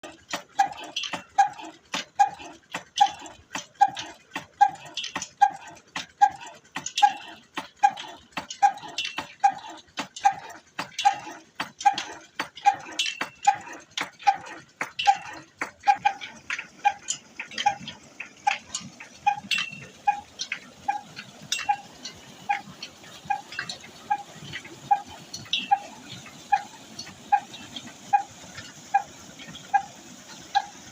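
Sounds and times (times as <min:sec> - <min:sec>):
old engine running slowly: 0:00.0 - 0:30.9.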